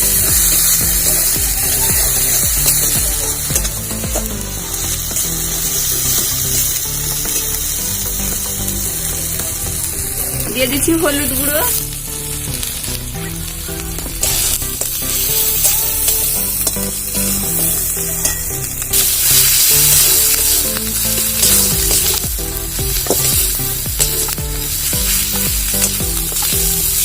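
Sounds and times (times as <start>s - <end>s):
paste sizzling in oil: 0.0s - 27.0s
soft background music: 0.0s - 27.0s.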